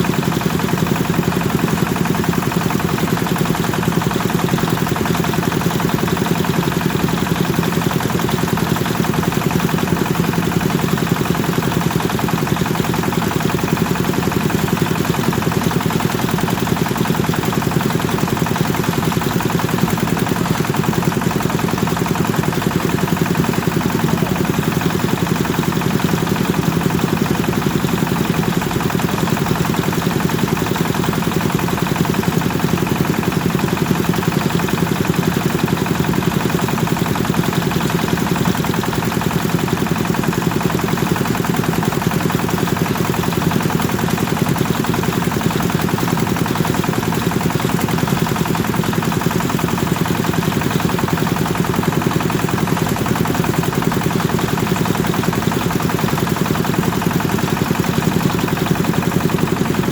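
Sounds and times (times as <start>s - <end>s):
thresher engine running: 0.0s - 59.9s.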